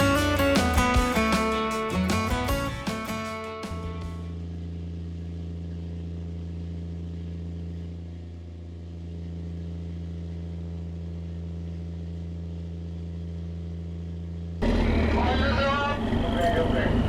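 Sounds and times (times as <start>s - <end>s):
boat engine humming: 0.0s - 13.0s, 14.6s - 17.0s.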